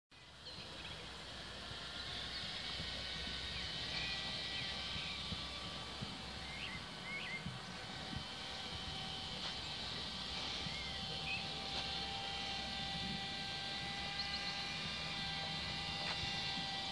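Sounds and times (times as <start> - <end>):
small birds chirping: 0.1 - 16.9
steady low rumble: 0.3 - 16.9
horse hooves on sand: 2.3 - 16.9.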